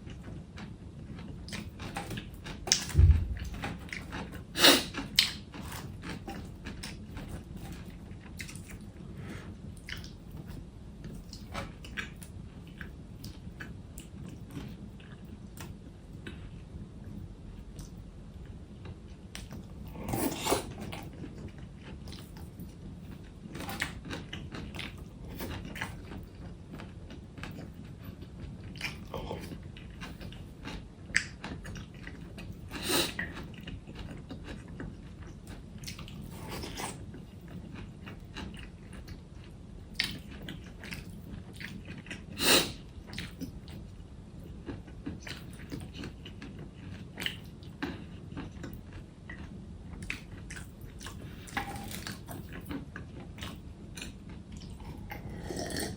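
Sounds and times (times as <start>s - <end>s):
person chewing food: 0.0s - 16.6s, 23.2s - 55.9s.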